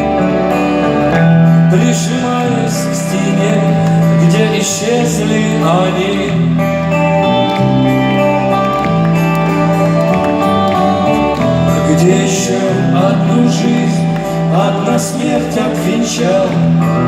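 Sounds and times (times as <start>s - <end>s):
bass line: 0.0s - 17.0s
rock band playing live: 0.0s - 17.0s.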